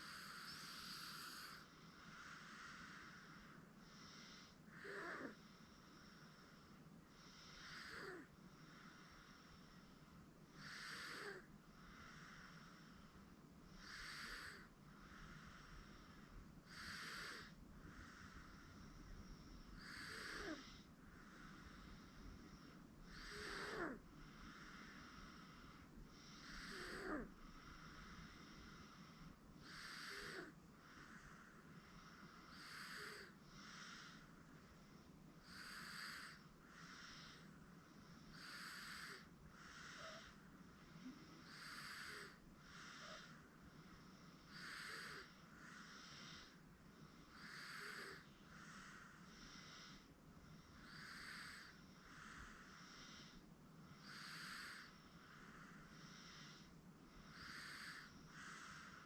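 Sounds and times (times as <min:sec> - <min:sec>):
baby breathing with light snore: 0:00.0 - 0:59.0.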